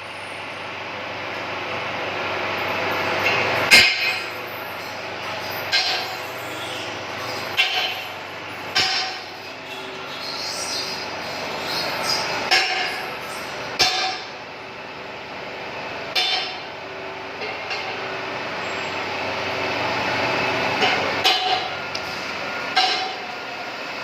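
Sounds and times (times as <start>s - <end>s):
workshop machinery running: 0.0s - 24.0s.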